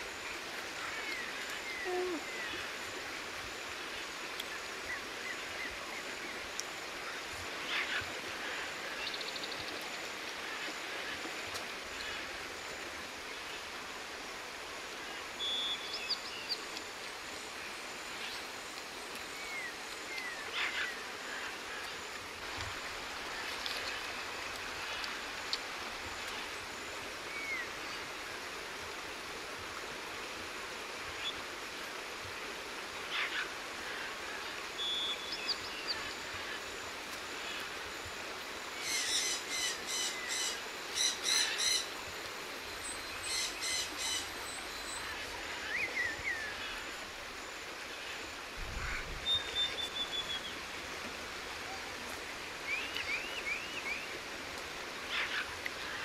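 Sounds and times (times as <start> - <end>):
forest birds chirping: 0.0 - 28.2, 33.0 - 56.0
steady background hiss: 0.0 - 56.0.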